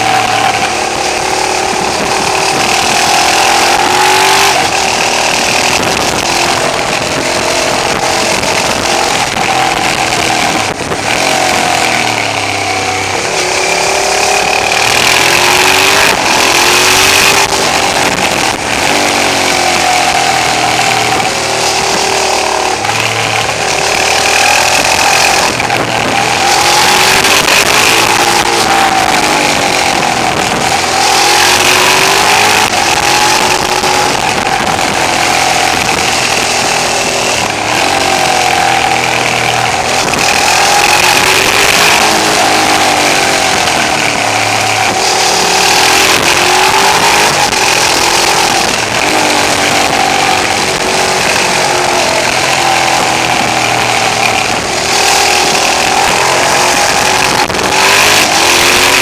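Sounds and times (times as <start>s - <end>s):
motorcycle engine revving: 0.0s - 59.0s
wind rushing over microphone: 0.0s - 59.0s.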